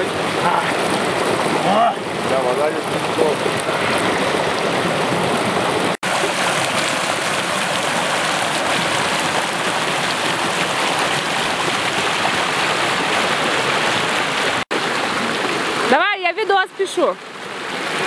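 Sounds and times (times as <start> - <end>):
stream splashing over rocks: 0.0 - 18.0.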